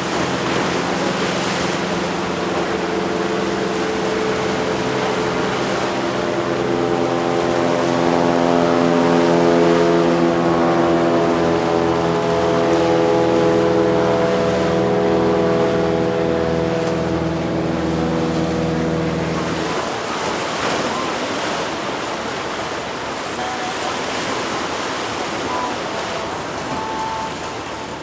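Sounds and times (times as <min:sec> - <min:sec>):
boat engines droning: 0:00.0 - 0:28.0
waves washing: 0:00.0 - 0:28.0
wind: 0:00.0 - 0:28.0.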